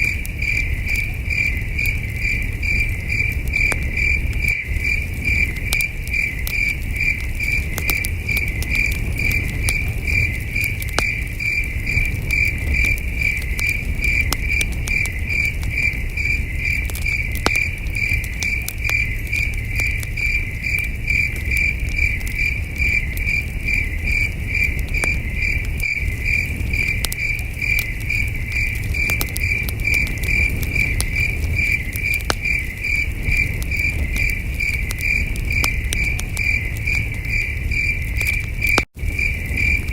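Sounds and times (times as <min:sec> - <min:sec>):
campfire crackling: 0:00.0 - 0:39.9
crickets chirping: 0:00.0 - 0:39.9
fire popping: 0:00.0 - 0:39.9.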